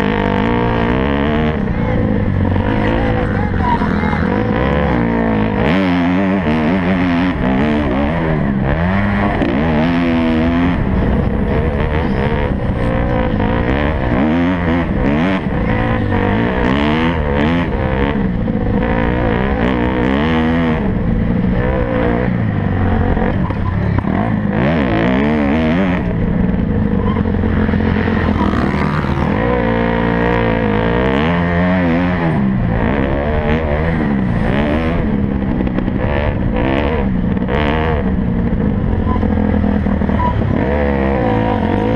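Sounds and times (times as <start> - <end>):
motocross bike engines revving: 0.0 - 41.9.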